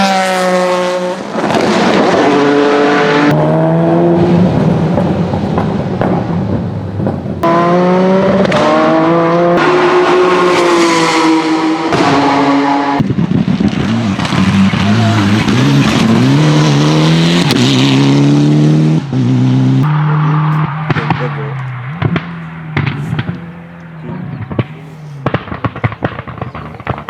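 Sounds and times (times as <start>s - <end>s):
race car engines accelerating: 0.0s - 27.0s.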